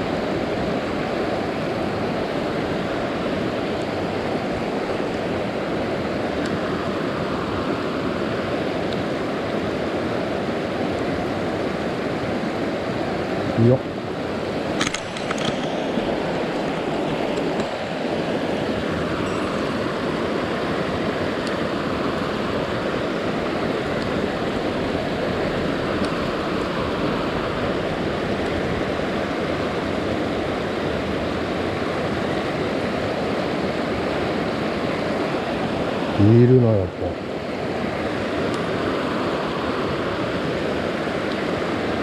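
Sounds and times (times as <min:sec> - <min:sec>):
stream water rushing: 0:00.0 - 0:42.0.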